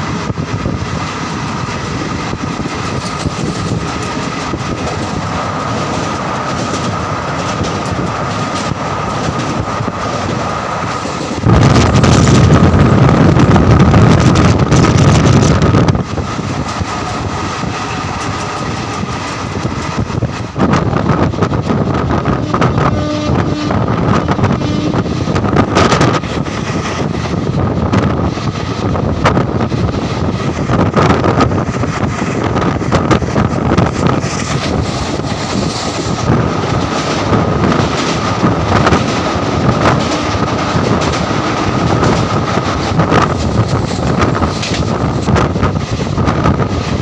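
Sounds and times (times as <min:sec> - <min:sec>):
train wheels rumbling on rails: 0:00.0 - 0:47.0
wind buffeting microphone: 0:00.0 - 0:47.0.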